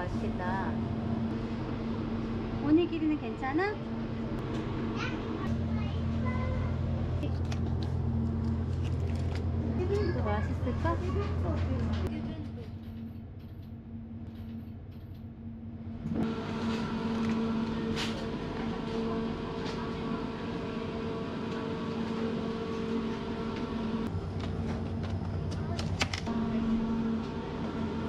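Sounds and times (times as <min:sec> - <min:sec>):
electrical hum of refrigerated cases: 0:00.0 - 0:28.0.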